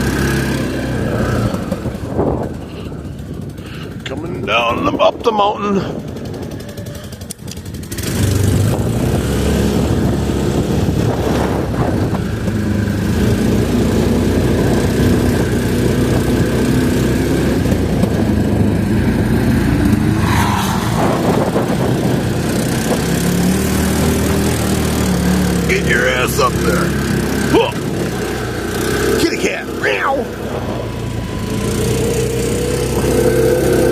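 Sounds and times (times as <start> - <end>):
atv engine under throttle: 0.0 - 33.9.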